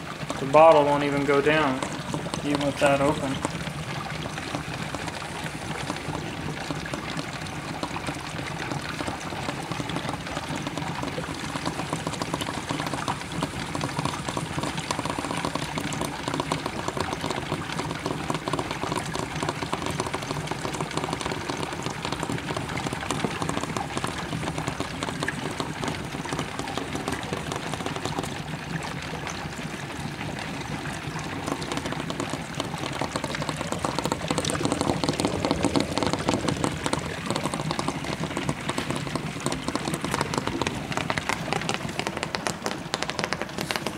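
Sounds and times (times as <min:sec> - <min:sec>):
water bubbling and fizzing: 0:00.0 - 0:43.9.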